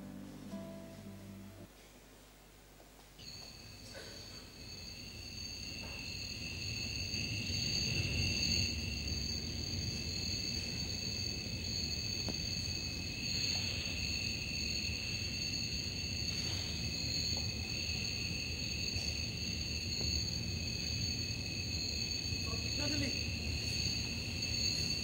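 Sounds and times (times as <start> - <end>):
crickets chirring: 3.2 - 25.0.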